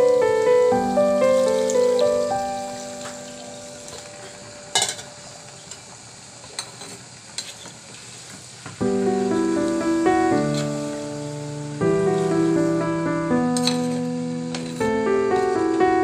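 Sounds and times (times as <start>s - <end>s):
piano background music: 0.0s - 5.8s, 8.8s - 16.0s.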